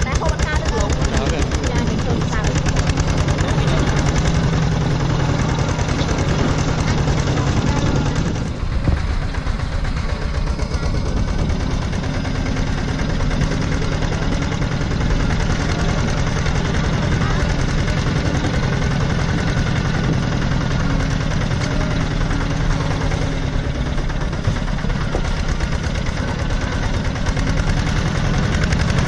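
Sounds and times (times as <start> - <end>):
tractor engine chugging: 0.0 - 29.0.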